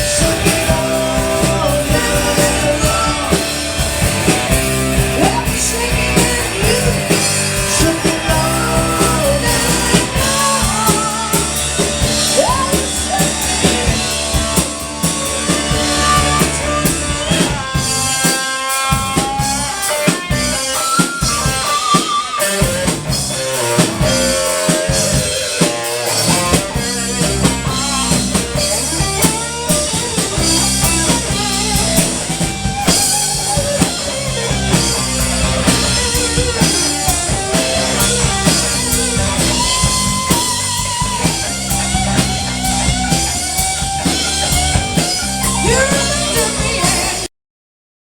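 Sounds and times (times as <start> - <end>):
rock band playing: 0.0 - 47.3
wavering lead guitar line: 0.0 - 47.3.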